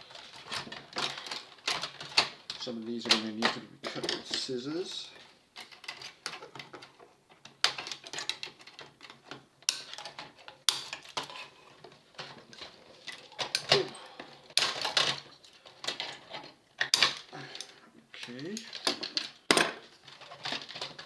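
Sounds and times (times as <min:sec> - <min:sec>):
metal parts clicking and clattering: 0:00.0 - 0:21.0.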